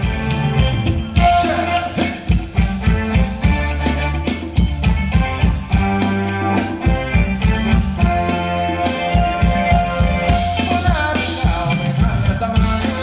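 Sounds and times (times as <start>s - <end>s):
live band dance music: 0.0s - 13.0s.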